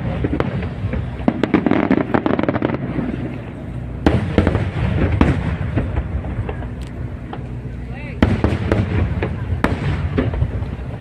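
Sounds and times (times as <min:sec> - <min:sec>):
heavy firework booms: 0:00.0 - 0:07.4, 0:08.1 - 0:11.0
continuous low rumble: 0:00.0 - 0:11.0
firework bursts and crackling: 0:00.0 - 0:11.0.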